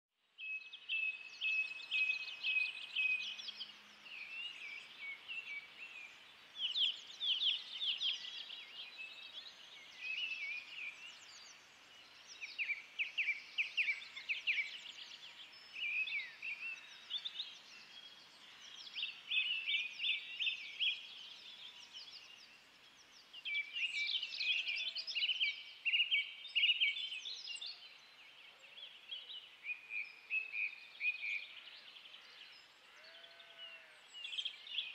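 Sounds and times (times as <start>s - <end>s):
songbirds singing: 0.3s - 34.9s.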